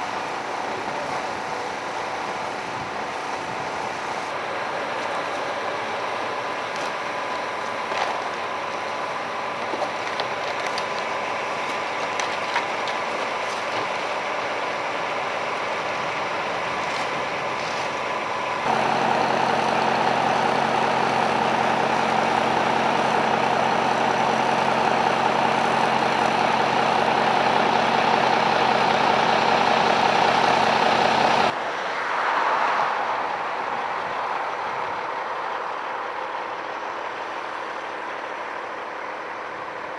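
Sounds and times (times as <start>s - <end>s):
vehicle engine idling: 0.0s - 31.6s, 33.4s - 39.9s
traffic noise: 0.0s - 39.9s.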